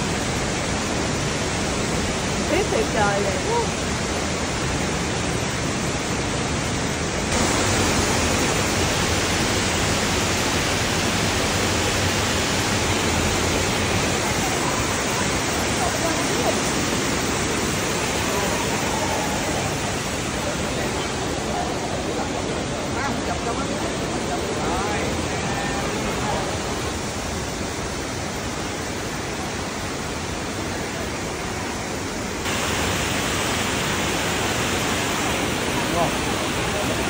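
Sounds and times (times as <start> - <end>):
stream water rushing: 0.0 - 37.0.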